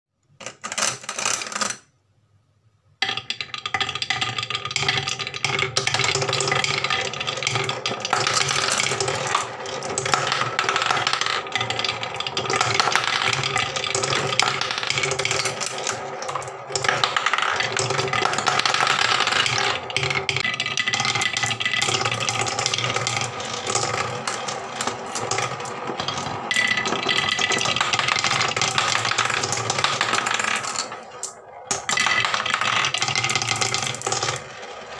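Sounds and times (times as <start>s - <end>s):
balls clattering down wooden track: 0.4s - 1.9s, 3.0s - 34.9s
balls whirling in wooden funnel: 3.0s - 34.9s.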